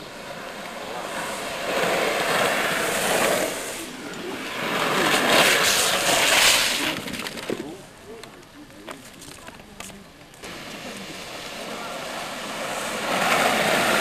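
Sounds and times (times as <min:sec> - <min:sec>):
hard wheels rolling on asphalt: 0:00.0 - 0:14.0.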